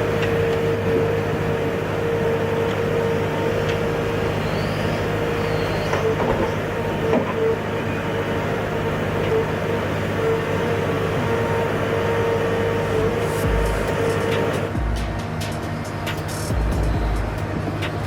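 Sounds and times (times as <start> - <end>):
machine engine whining: 0.0 - 18.0.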